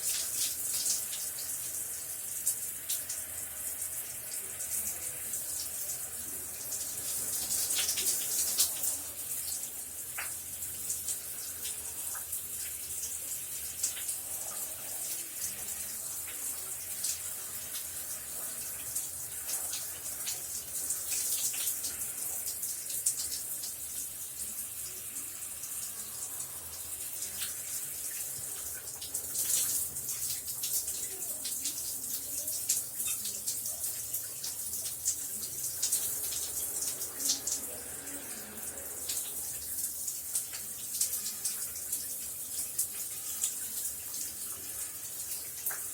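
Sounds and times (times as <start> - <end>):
shower water spraying: 0.0 - 45.9.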